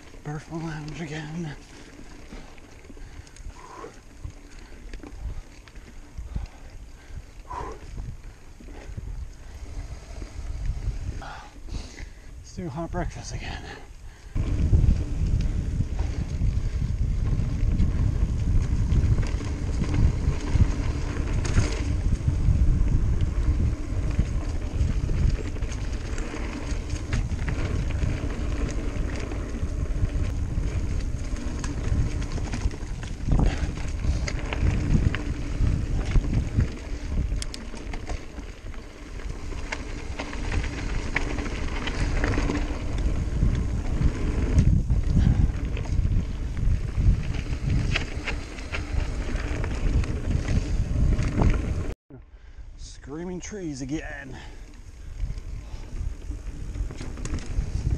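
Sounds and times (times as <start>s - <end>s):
bike tyres rumbling on trail: 0.0s - 57.9s
wind buffeting microphone: 0.0s - 57.9s.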